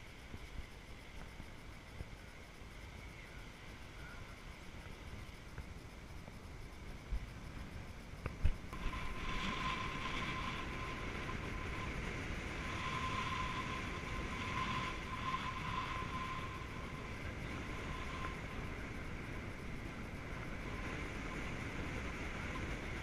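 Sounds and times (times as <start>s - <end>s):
thin steady whine: 0.0s - 23.0s.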